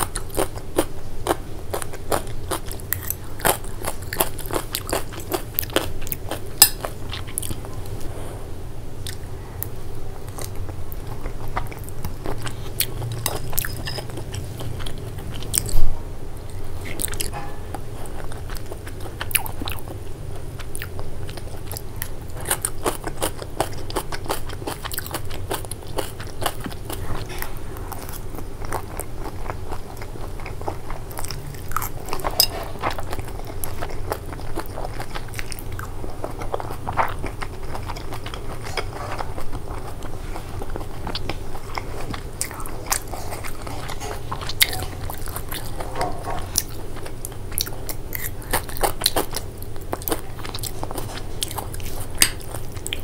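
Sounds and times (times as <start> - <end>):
chewing crunchy salad: 0.0 - 8.3, 9.0 - 53.0.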